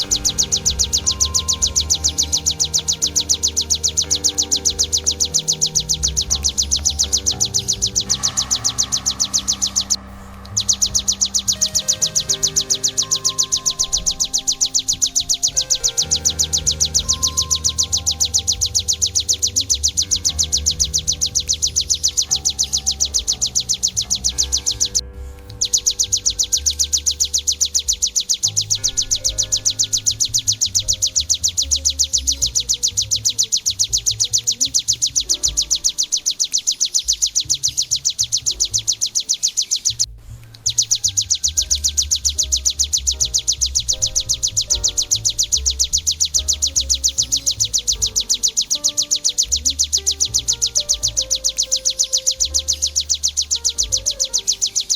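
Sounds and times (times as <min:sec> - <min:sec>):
background music with bass beat: 0:00.0 - 0:54.9
bird song of high notes: 0:00.0 - 0:54.9.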